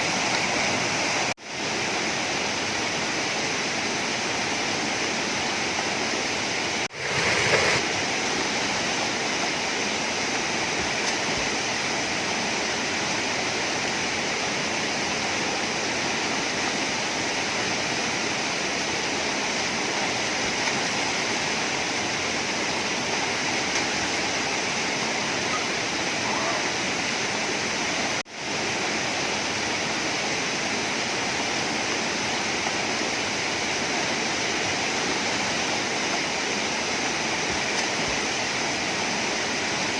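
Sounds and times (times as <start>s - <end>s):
flowing water: 0.0s - 39.9s
waterfall rushing: 0.0s - 39.9s.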